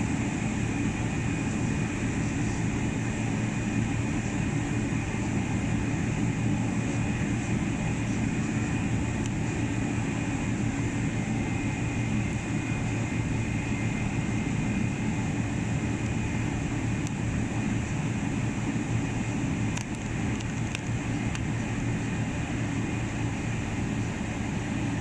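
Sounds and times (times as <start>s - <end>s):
jet engines rumbling with whine: 0.0s - 25.0s.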